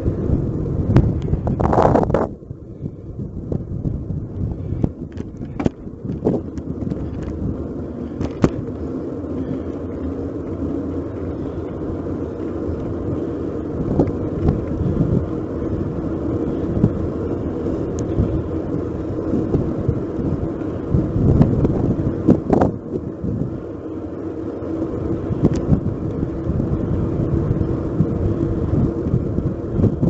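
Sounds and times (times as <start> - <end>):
bicycle tyre and wind rumble: 0.0 - 30.0
bicycle rattling clicks: 4.6 - 23.2, 24.2 - 30.0.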